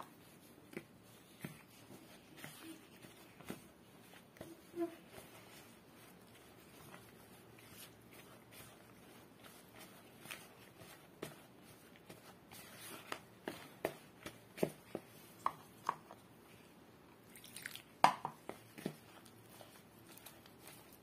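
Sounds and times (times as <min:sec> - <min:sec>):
spoon stirring batter in bowl: 0:00.0 - 0:16.6, 0:17.2 - 0:21.0.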